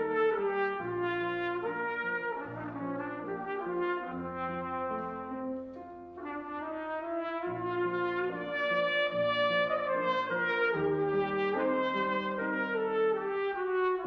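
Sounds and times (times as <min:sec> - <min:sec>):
grand piano: 0:00.0 - 0:14.0
solo trumpet playing: 0:00.0 - 0:14.0.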